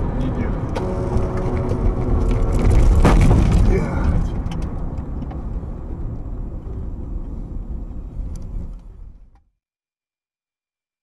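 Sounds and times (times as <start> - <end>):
car tyre and wind rumble: 0.0 - 9.4.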